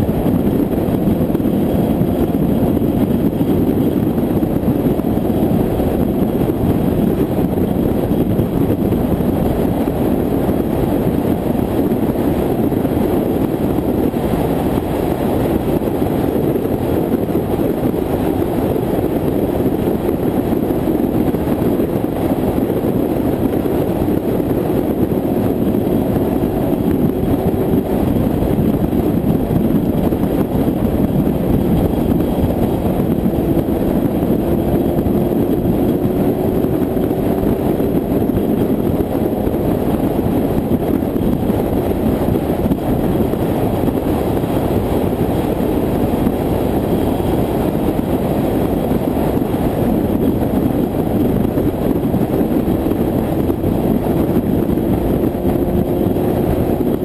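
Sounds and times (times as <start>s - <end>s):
car cruising at highway speed: 0.0s - 57.0s.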